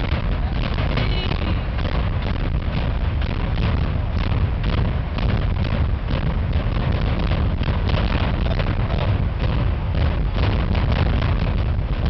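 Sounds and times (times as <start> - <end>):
demolition charges exploding: 0.0 - 12.0.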